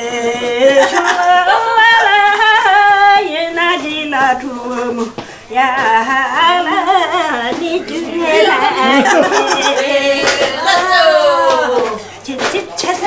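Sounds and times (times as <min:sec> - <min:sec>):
elderly woman singing unaccompanied: 0:00.0 - 0:13.0.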